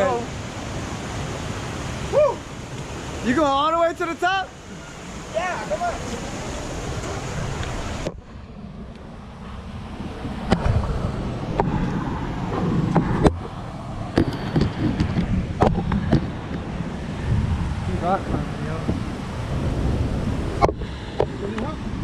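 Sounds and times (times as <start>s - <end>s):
steady rushing noise: 0.0s - 22.0s
wind rumbling on microphone: 0.0s - 22.0s.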